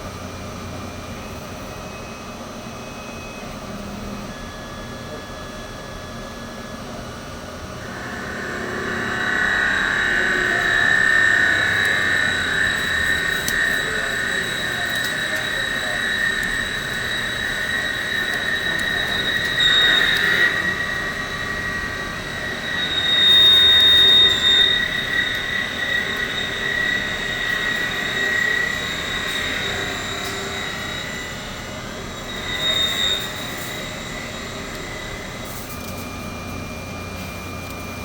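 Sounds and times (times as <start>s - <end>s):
lathe tool squealing whine: 6.8s - 38.0s.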